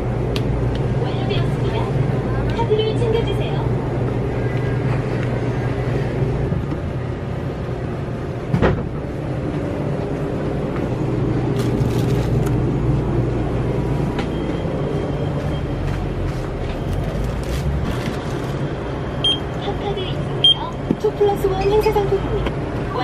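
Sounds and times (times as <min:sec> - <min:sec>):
low machine hum: 0:00.0 - 0:22.1.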